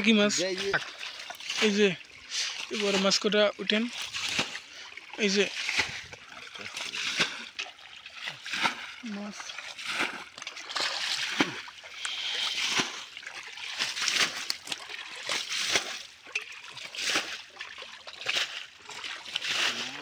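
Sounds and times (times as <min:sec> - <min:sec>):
splashing in muddy water: 0:00.0 - 0:20.0.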